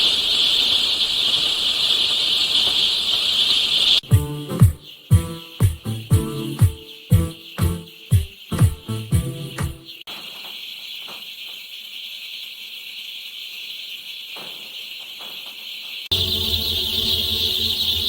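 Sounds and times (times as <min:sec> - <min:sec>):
baby chicks peeping: 0:00.0 - 0:18.0.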